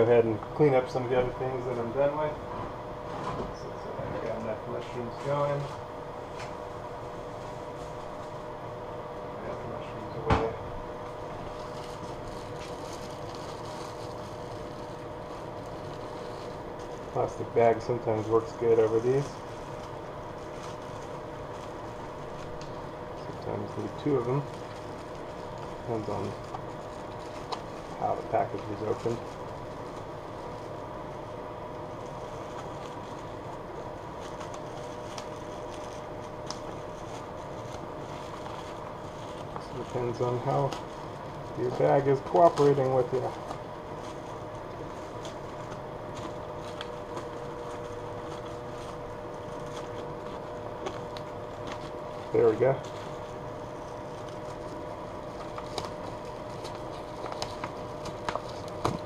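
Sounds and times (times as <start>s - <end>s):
kitchen fan humming: 0.0s - 59.0s
plastic bag crinkling: 10.8s - 59.0s.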